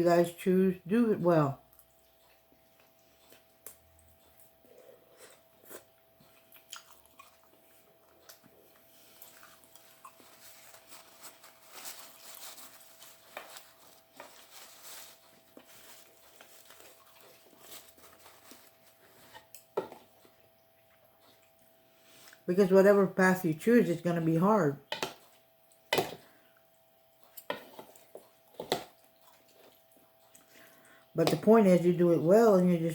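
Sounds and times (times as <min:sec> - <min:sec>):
faint steady hum: 0:00.0 - 0:32.9
person chewing and crunching food: 0:01.6 - 0:22.5, 0:24.9 - 0:31.4.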